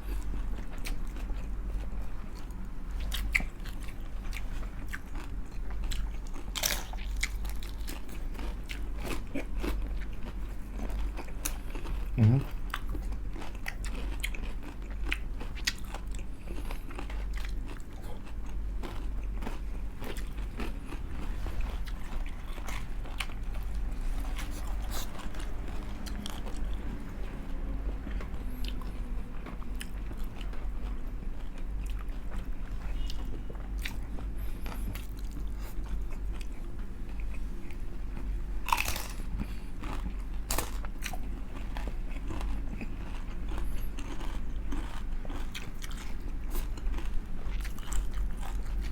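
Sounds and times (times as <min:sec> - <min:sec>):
crunching and chewing crispy food: 0:00.0 - 0:48.9
steady low hum: 0:00.0 - 0:48.9.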